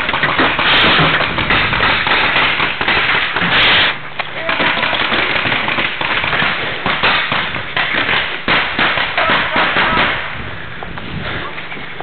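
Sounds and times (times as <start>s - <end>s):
pellet guns firing: 0.0s - 10.4s.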